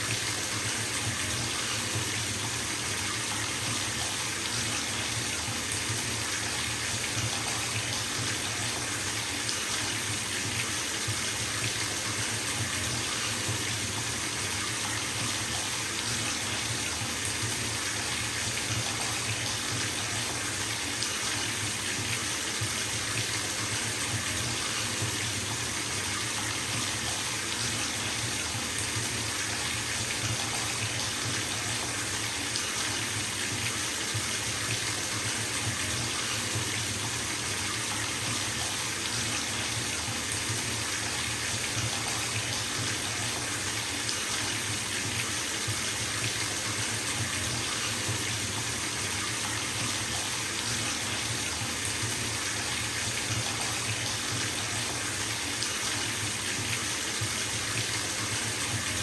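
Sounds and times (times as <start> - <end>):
tap water pouring into bathtub: 0.0 - 59.0.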